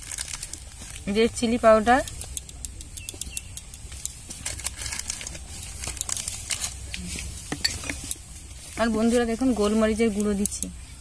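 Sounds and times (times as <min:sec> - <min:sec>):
spices clicking in steel bowl: 0:00.0 - 0:08.2, 0:08.8 - 0:10.8.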